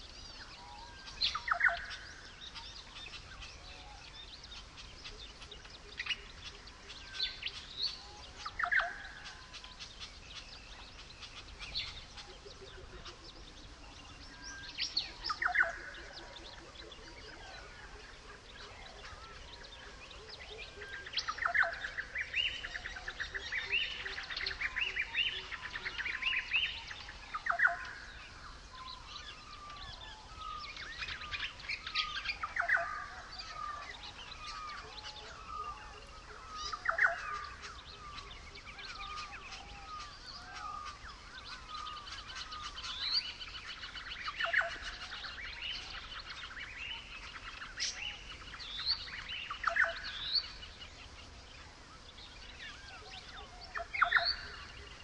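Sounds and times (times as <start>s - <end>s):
birds calling and chirping: 0.0s - 55.0s.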